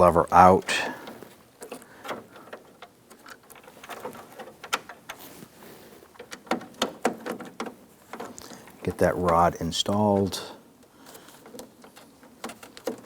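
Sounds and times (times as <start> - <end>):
plastic and metal parts clicking: 0.8 - 13.0.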